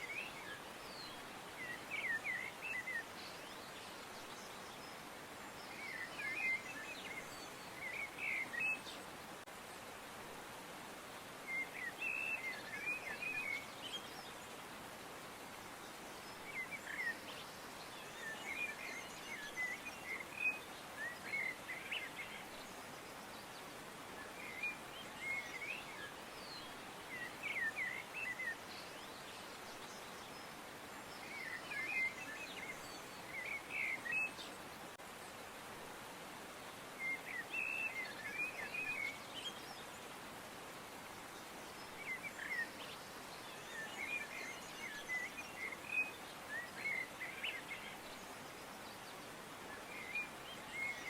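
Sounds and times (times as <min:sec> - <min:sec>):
steady background hiss: 0:00.0 - 0:51.0.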